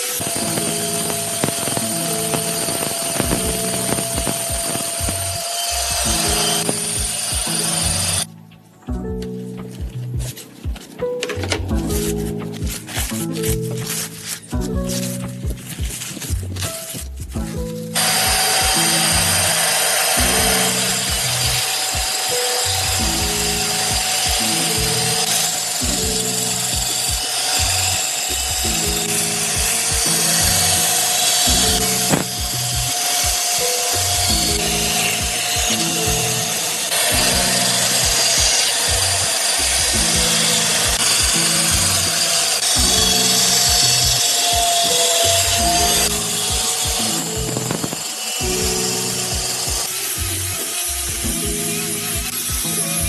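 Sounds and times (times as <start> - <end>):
power tool working wood: 0.0 - 8.3, 11.6 - 17.0, 17.9 - 53.0
background music with beat: 0.0 - 53.0.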